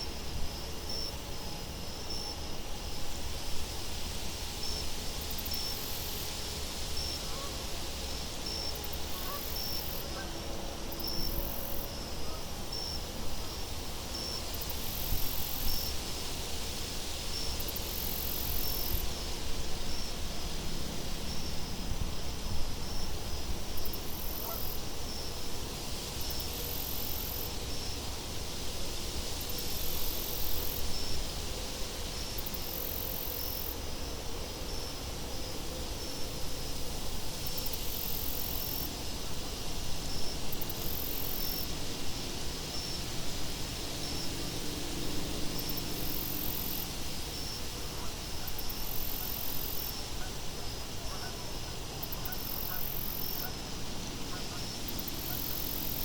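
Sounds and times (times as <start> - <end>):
steady wind with low rumble: 0.0 - 56.0.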